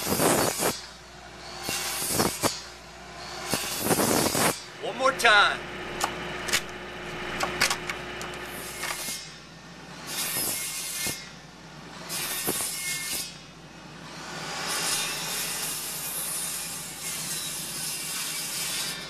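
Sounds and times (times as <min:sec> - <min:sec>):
circular saw cutting wood: 0:00.0 - 0:19.0.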